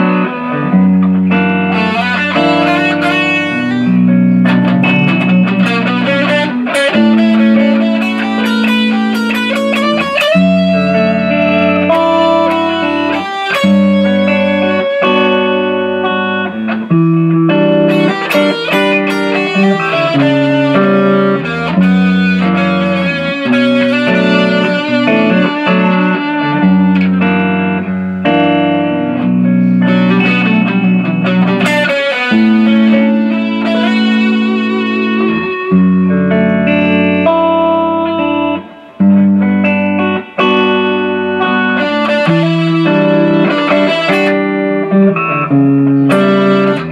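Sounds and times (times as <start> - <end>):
electric guitar melody: 0.0 - 46.9.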